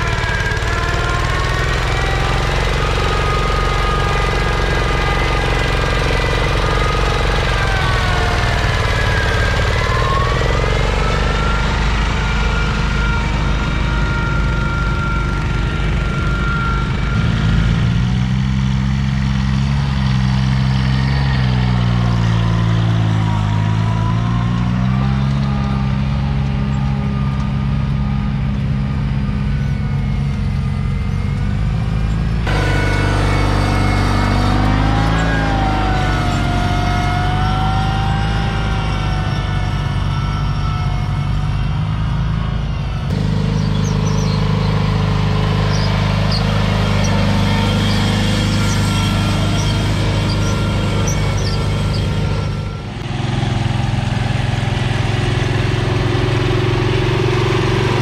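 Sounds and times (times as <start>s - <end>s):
garden tractor engines under load: 0.0s - 58.0s
high wavering whine: 0.0s - 58.0s.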